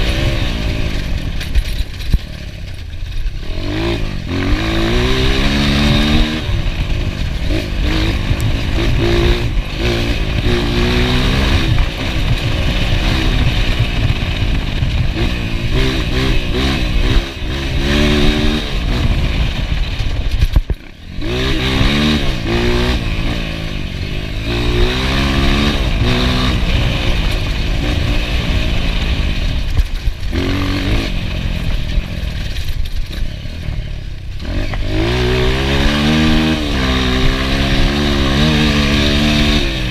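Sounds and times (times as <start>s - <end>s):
loose rattling from bike: 0.0s - 39.9s
motorcycle engine revving: 0.0s - 39.9s.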